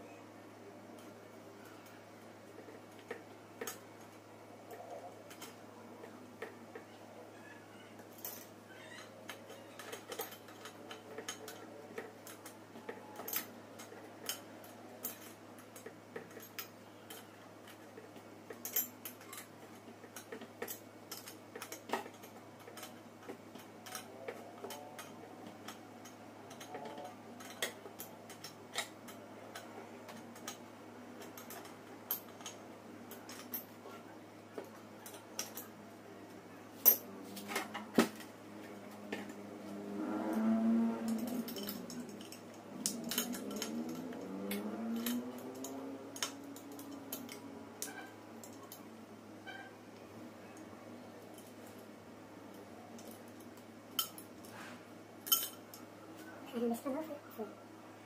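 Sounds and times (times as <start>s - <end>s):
faint steady hum: 0.0s - 58.0s
metal parts and tools clinking: 2.6s - 7.0s, 7.7s - 36.0s, 36.6s - 49.8s, 50.5s - 54.6s, 55.2s - 57.0s.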